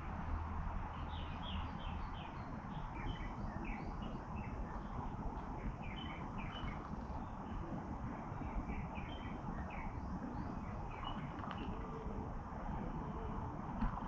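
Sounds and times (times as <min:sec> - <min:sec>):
steady low rumble: 0:00.0 - 0:14.0
birds chirping: 0:00.9 - 0:13.6.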